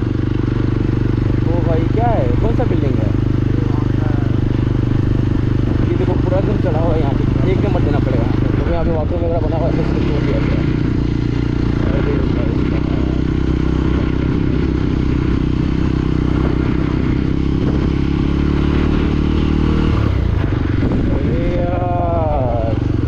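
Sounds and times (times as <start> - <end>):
motorcycle engine drone: 0.0 - 23.0.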